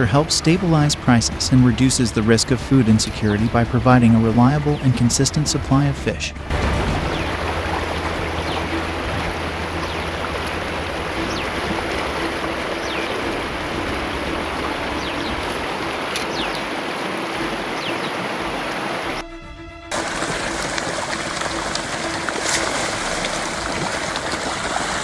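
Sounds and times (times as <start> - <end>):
water splashing from fish: 0.0 - 19.2, 19.9 - 25.0.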